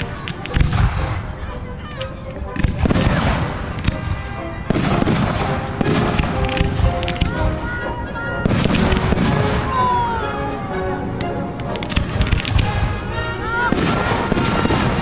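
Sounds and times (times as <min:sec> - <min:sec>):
fireworks crackling: 0:00.0 - 0:01.3, 0:02.4 - 0:10.2, 0:11.6 - 0:15.0
fireworks bursts: 0:00.0 - 0:01.4, 0:02.5 - 0:10.2, 0:11.7 - 0:15.0
music playing: 0:00.0 - 0:15.0.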